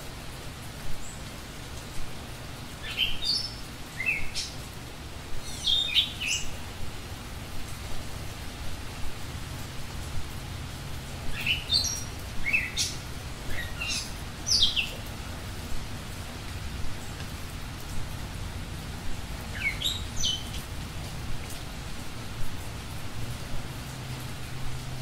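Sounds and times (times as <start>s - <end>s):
steady rain-like hiss: 0.0s - 25.0s.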